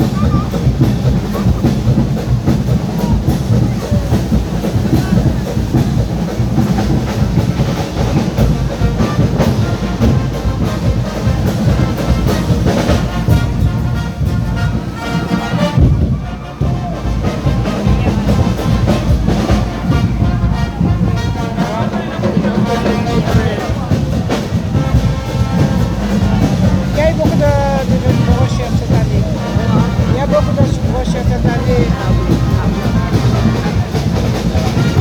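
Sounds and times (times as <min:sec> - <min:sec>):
brass horns: 0:00.0 - 0:35.0
heavy percussion: 0:00.0 - 0:35.0.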